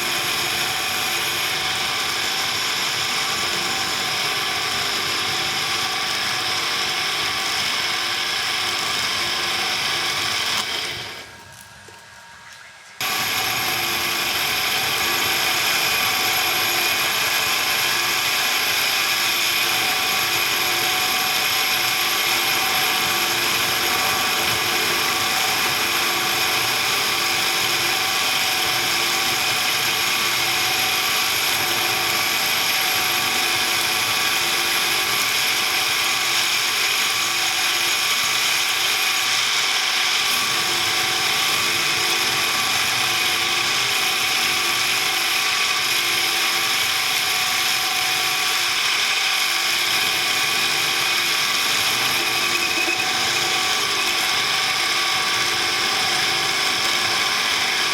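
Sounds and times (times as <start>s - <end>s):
electric power tool running: 0.0s - 57.9s.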